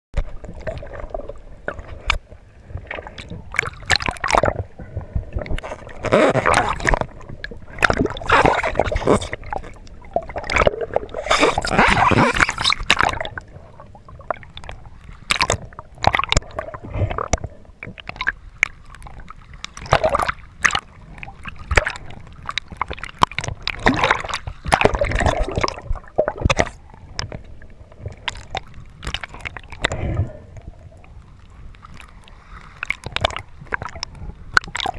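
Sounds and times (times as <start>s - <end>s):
water sloshing and gurgling: 0.2s - 34.9s.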